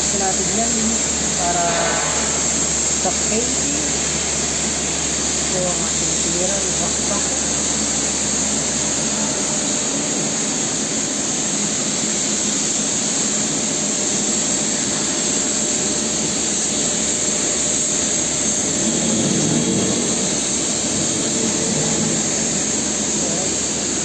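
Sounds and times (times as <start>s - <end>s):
machine hissing drone: 0.0s - 24.0s.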